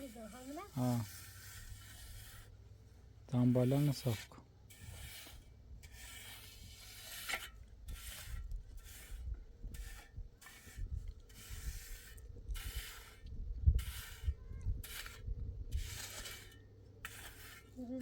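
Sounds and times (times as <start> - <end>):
hand tool scraping: 0.0 - 18.0.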